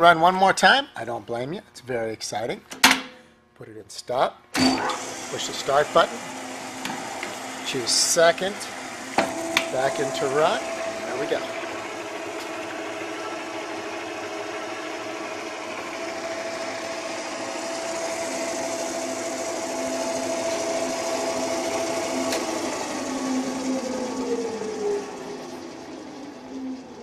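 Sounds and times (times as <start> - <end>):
mixer motor whining: 4.6 - 27.0.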